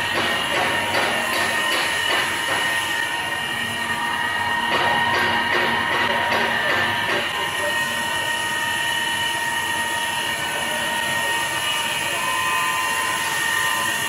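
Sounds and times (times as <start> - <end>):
cutter shaving wood: 0.0 - 14.0
lathe spindle whine: 0.0 - 14.0.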